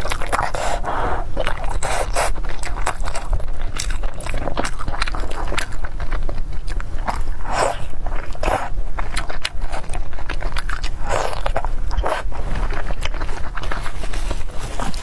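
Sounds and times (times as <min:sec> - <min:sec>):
chewing with wet clicks: 0:00.0 - 0:15.0.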